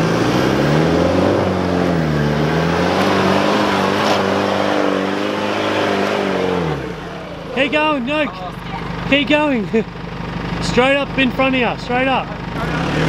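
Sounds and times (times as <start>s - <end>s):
car engine revving under load: 0.0s - 13.0s.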